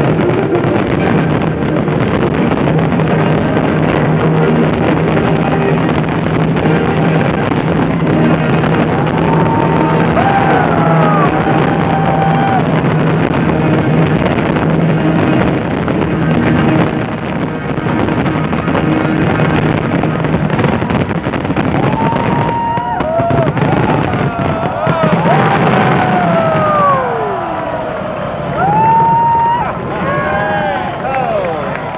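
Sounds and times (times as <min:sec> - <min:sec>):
fireworks bursting and crackling: 0:00.0 - 0:31.9
whistling fireworks: 0:00.0 - 0:31.9.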